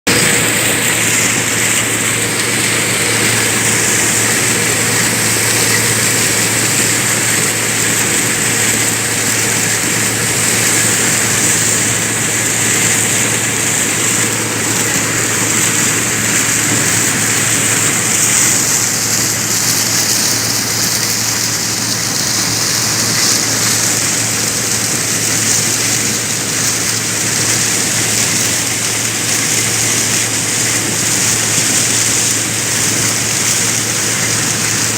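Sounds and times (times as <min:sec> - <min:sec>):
thresher machine hum: 0:00.0 - 0:34.9
loud even hiss: 0:00.1 - 0:34.9.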